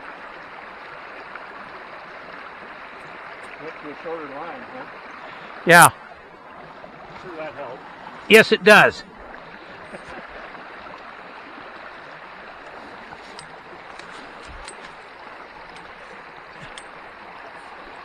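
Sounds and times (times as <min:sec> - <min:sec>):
shallow creek water rushing: 0:00.0 - 0:18.0.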